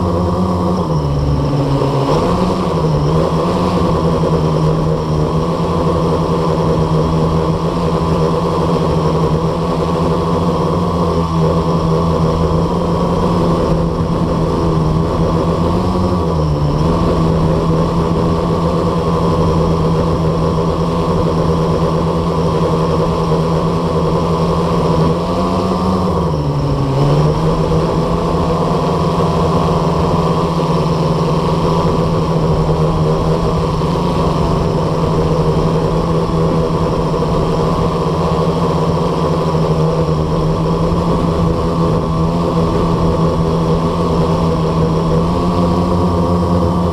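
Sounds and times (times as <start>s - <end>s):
quadcopter propellers droning: 0.0s - 46.9s.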